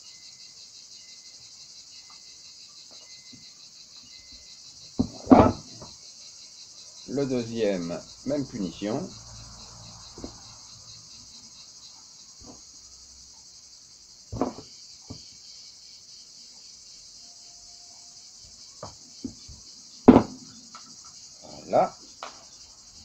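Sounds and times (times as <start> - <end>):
high insect chirring: 0.0 - 23.0.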